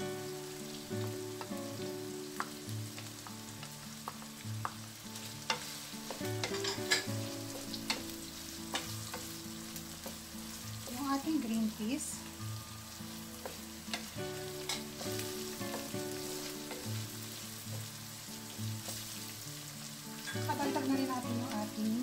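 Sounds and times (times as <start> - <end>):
soft sizzle: 0.0 - 22.0.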